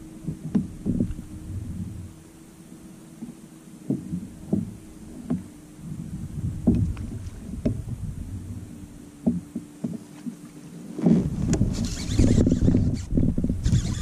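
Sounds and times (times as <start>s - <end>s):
faint steady hum: 0.0s - 14.0s
rumble: 0.0s - 14.0s.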